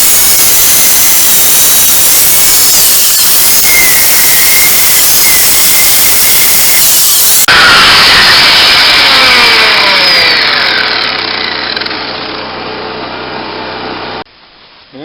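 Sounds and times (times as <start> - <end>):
angle grinder on steel: 0.0 - 12.9.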